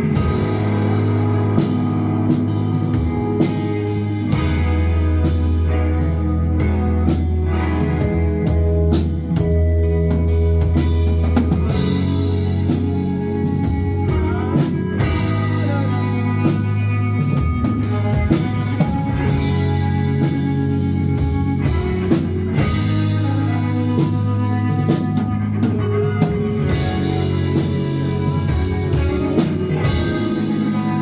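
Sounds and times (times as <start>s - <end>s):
drum kit beat: 0.0s - 31.0s
guitar: 0.0s - 31.0s.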